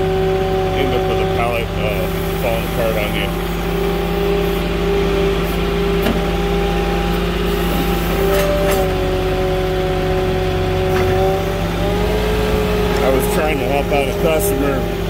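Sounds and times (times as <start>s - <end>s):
forklift engine running: 0.0s - 15.0s
steady droning tone: 0.0s - 15.0s.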